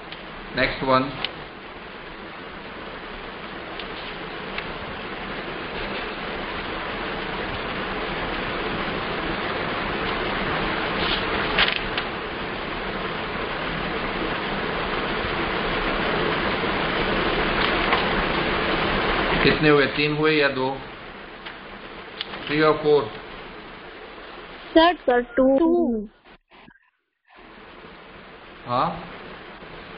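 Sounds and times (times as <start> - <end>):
steady hiss: 0.0 - 25.5, 27.4 - 29.9.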